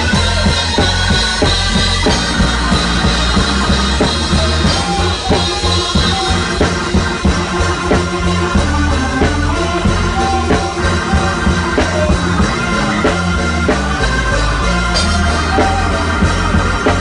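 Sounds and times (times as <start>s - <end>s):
drum kit hits: 0.0s - 17.0s
gospel band playing: 0.0s - 17.0s.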